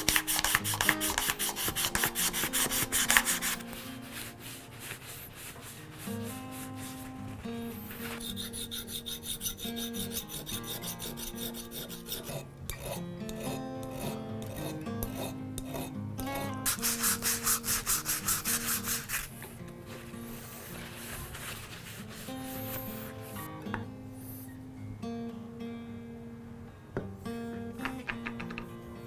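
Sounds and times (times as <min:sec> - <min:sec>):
abrasive tool rasping wood: 0:00.0 - 0:23.5
background music: 0:00.0 - 0:29.0.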